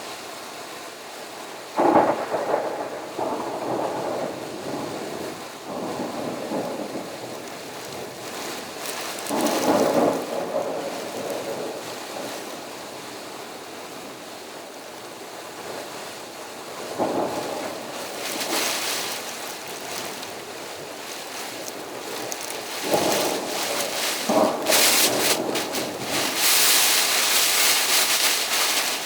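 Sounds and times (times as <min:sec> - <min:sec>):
steady rain: 0:00.0 - 0:29.0
wind: 0:00.0 - 0:29.0.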